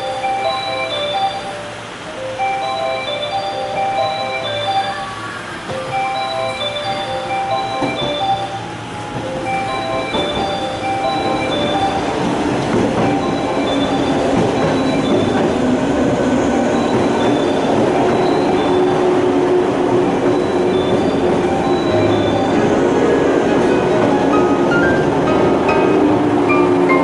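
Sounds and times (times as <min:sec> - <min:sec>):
train rumbling on rails: 0:00.0 - 0:27.0
wheels squealing: 0:02.9 - 0:27.0.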